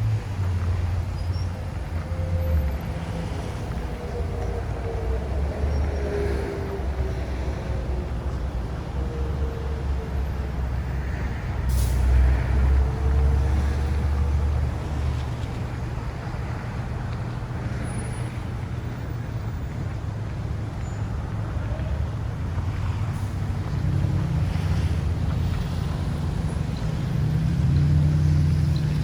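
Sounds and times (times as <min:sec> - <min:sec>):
heavy vehicle engine rumbling: 0:00.0 - 0:29.0
steady traffic hum: 0:00.0 - 0:29.0.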